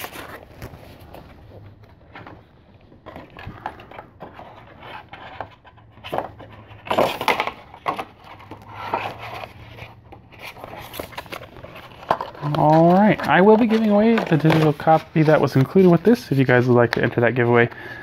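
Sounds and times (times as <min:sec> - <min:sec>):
plastic case rustling and scraping: 0:00.0 - 0:17.8.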